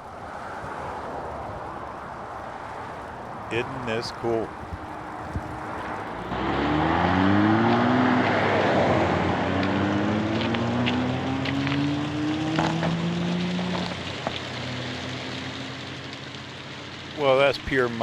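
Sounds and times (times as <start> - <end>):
vehicle accelerating: 1.9 - 17.2.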